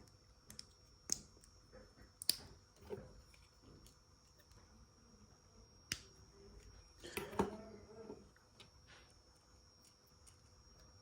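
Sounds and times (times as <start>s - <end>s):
faint high-pitched whine: 0.0s - 11.0s.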